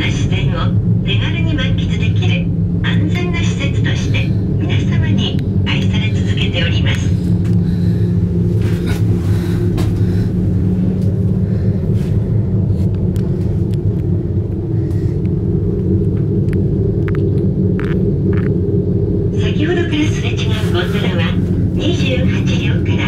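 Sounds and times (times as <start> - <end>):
gondola cabin rumble and hum: 0.0 - 23.0.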